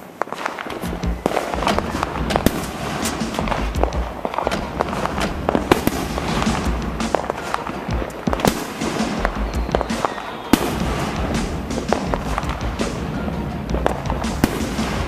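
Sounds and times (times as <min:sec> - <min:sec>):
fireworks bangs and crackling pops: 0:00.0 - 0:15.0.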